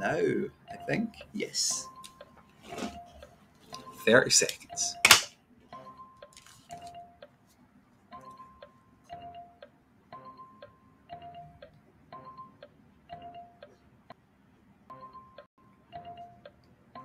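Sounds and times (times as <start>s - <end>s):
tick-tock timer chimes: 0.0s - 5.0s, 5.7s - 7.4s, 8.1s - 14.2s, 14.9s - 17.0s.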